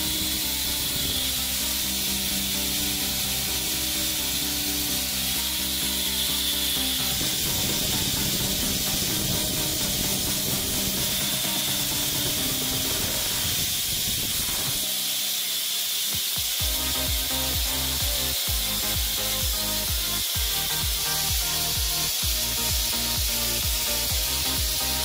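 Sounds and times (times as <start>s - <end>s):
background music: 0.0s - 25.0s
belt sander sanding: 0.0s - 25.0s.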